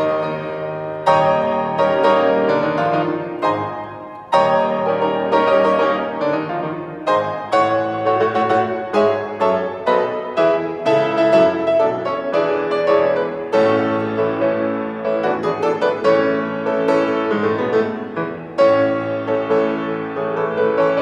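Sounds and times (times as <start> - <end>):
grand piano playing: 0.0 - 21.0.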